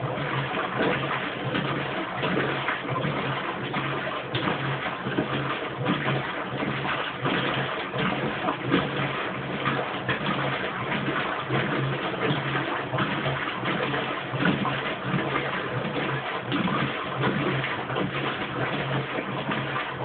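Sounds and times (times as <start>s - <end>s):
low motor hum: 0.0s - 20.0s
water sloshing in washing machine: 0.0s - 20.0s.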